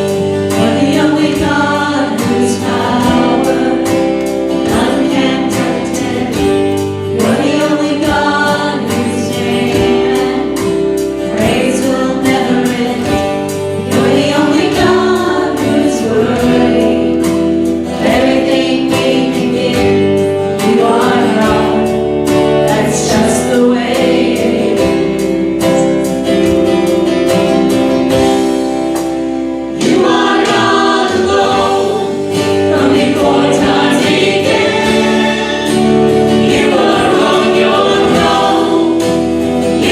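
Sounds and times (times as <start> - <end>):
congregation singing a hymn: 0.0 - 25.8, 29.6 - 39.9
instrumental accompaniment: 0.0 - 39.9.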